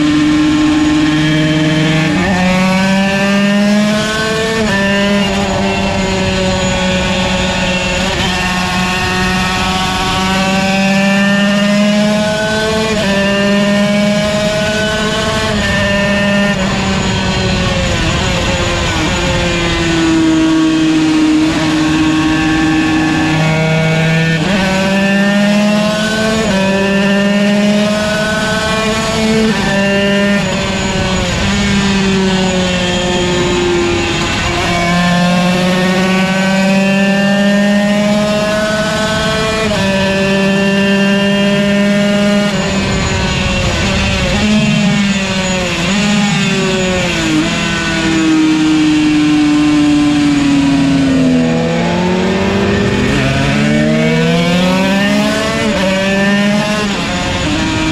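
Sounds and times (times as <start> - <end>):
two-stroke racing engine revving: 0.0 - 57.9.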